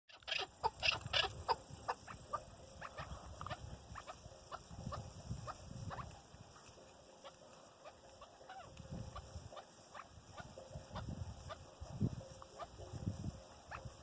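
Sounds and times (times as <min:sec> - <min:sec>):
partridges chirping calls: 0:00.1 - 0:14.0.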